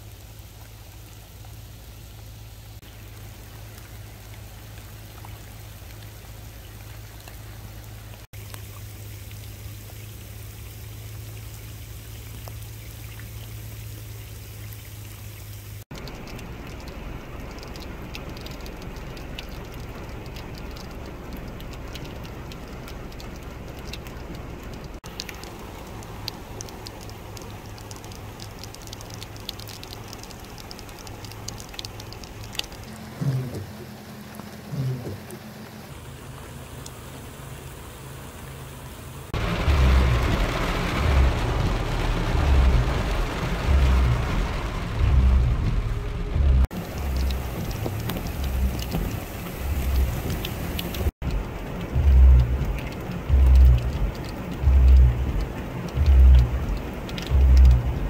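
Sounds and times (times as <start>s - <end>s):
raindrop ticks: 0.0s - 37.0s, 39.3s - 58.0s
low steady rumble: 0.0s - 58.0s
rain on dirt and puddles: 0.0s - 58.0s.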